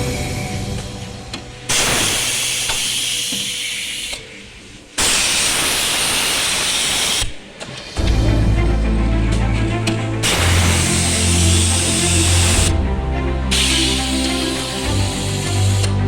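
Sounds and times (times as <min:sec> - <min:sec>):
music: 0:00.0 - 0:05.2, 0:07.8 - 0:16.0
hissing air bursts: 0:00.0 - 0:08.0, 0:10.1 - 0:16.0.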